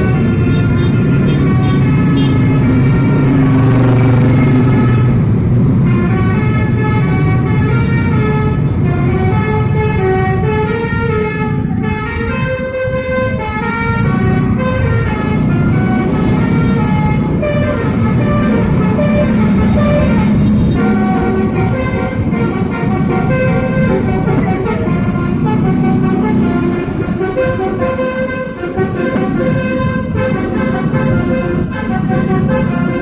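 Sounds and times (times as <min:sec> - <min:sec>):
melodic multi-tone air horn: 0:00.0 - 0:33.0.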